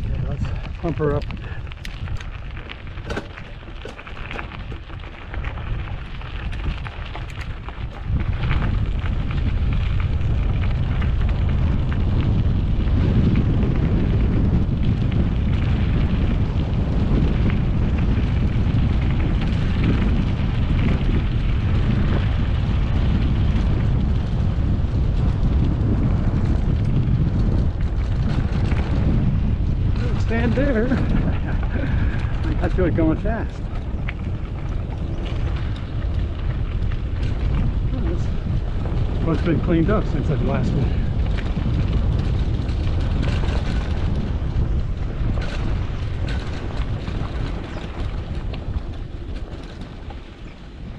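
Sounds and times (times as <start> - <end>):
bike clicks and rattles: 0.0 - 50.9
tyres crunching over dirt: 0.0 - 50.9
wind buffeting microphone: 0.0 - 50.9.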